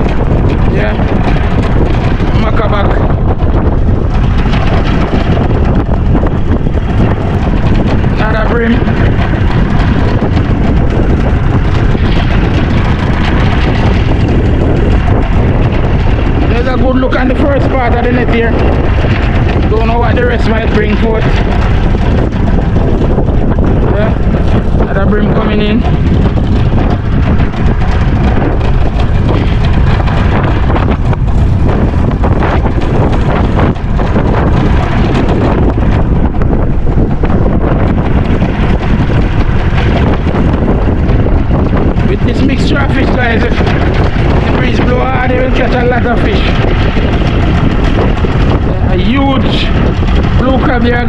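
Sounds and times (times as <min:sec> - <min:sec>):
loud wind on microphone: 0:00.0 - 0:51.0.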